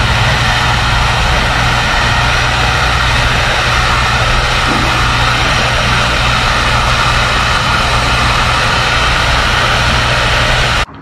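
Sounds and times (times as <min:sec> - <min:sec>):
heat gun blowing air: 0:00.0 - 0:10.8.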